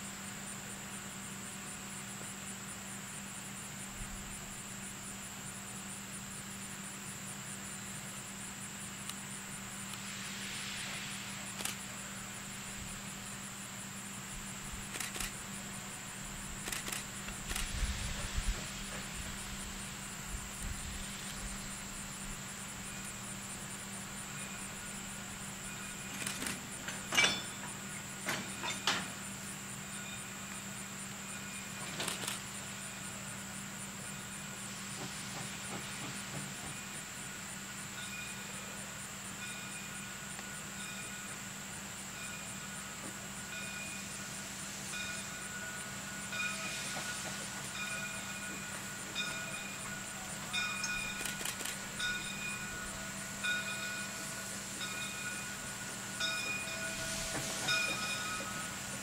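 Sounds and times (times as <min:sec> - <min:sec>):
distant steam locomotive working: 0:00.0 - 0:59.0
steady high buzz: 0:00.0 - 0:59.0.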